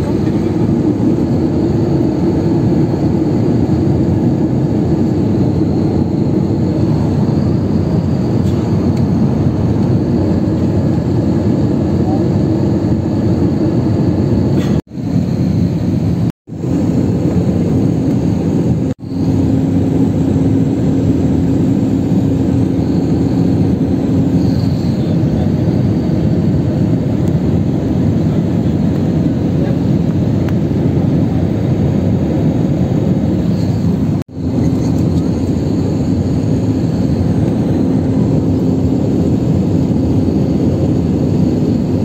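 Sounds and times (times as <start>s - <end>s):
jet engine cabin noise: 0.0s - 42.0s.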